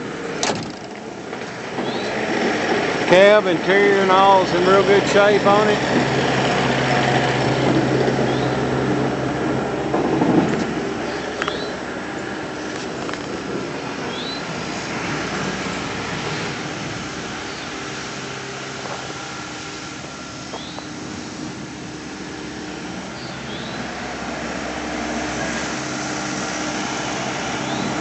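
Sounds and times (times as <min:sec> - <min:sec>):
excavator diesel engine idling: 0:00.0 - 0:26.3.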